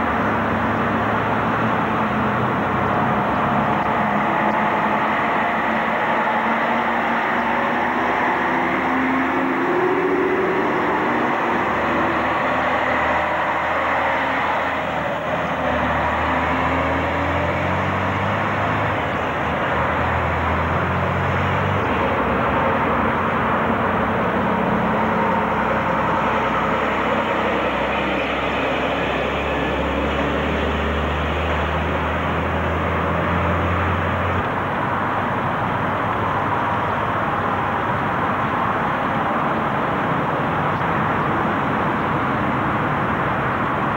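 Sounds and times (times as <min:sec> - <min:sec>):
lorry diesel engines passing: 0:00.0 - 0:43.9.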